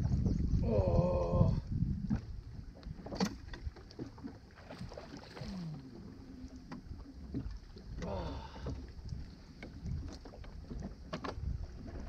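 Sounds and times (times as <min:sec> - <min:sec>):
low boat rumble: 0:00.0 - 0:12.0.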